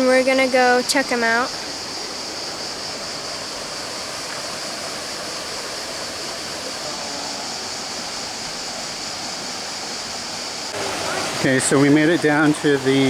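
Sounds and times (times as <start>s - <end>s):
stream water rushing over rocks: 0.0s - 13.0s.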